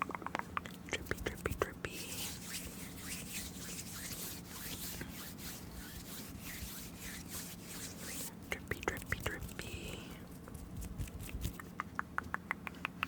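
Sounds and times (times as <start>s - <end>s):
hands rubbing: 0.9s - 11.8s.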